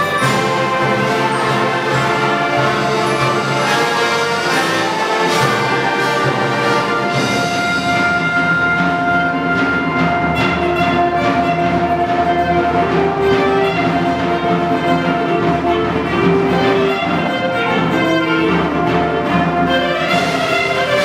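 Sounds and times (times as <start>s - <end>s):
concert band playing: 0.0s - 21.0s.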